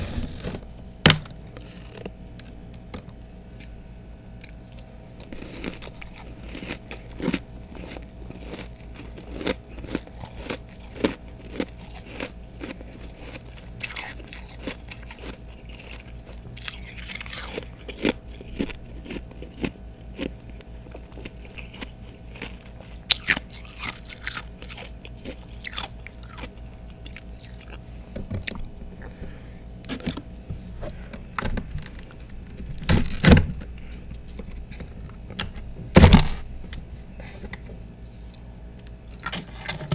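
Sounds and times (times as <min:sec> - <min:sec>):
ice being chewed: 0:01.3 - 0:02.9, 0:04.4 - 0:32.9, 0:33.7 - 0:39.9.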